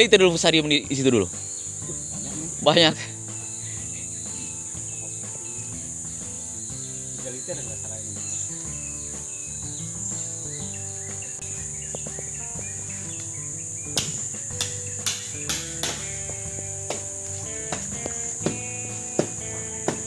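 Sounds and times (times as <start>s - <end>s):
faint low music tones: 0.0s - 20.0s
forest insects droning: 0.0s - 20.0s.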